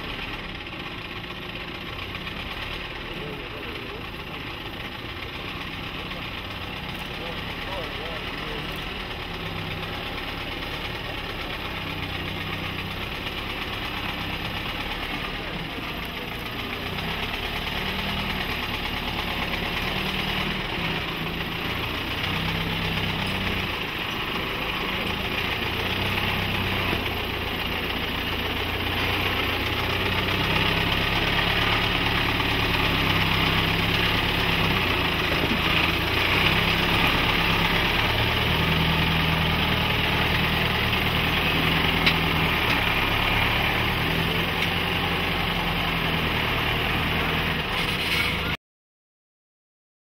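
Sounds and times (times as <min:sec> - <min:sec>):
diesel truck engine at low revs: 0:00.0 - 0:48.6.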